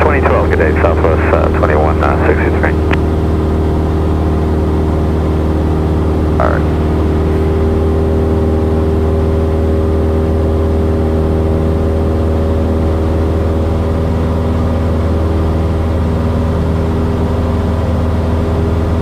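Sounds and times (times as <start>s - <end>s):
airplane engine droning: 0.0s - 19.0s.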